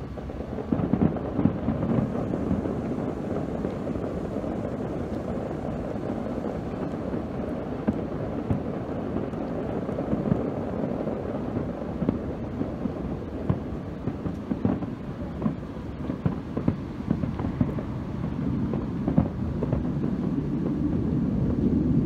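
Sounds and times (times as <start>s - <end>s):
rumble of firework booms: 0.0s - 22.0s
sharp firework reports: 0.0s - 22.0s.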